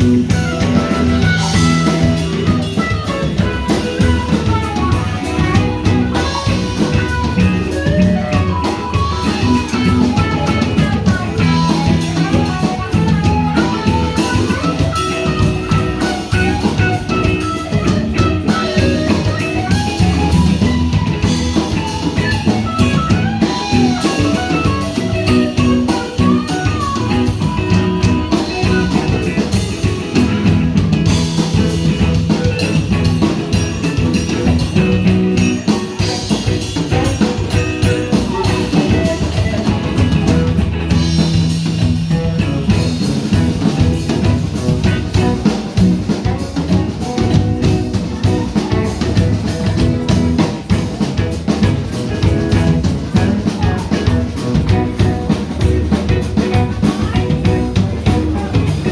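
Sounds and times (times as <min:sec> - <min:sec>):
band playing instrumental: 0:00.0 - 0:58.9.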